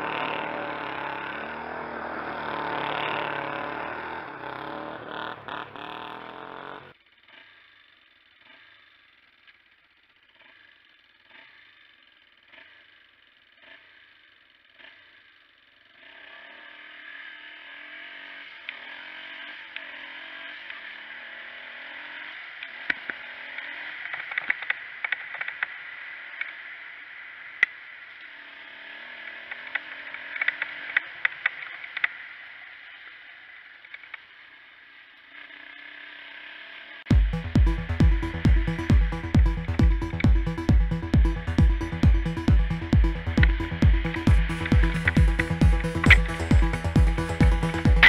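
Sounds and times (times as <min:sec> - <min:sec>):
atv engine revving: 0:00.0 - 0:48.0.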